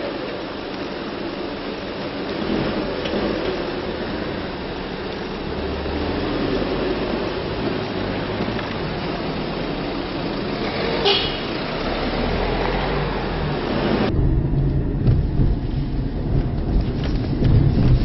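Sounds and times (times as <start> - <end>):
car engines running: 0.0 - 18.0
tyres on road: 0.0 - 18.0.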